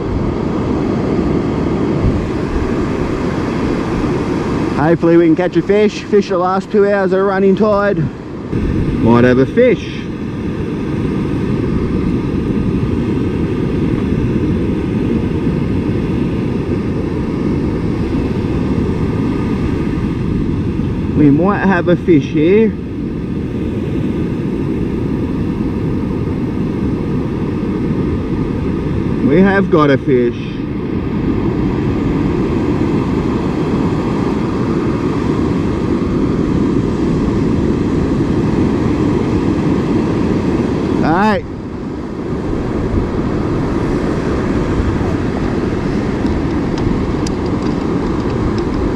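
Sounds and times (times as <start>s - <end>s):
surf breaking on beach: 0.0s - 48.9s
wind blowing on microphone: 0.0s - 48.9s.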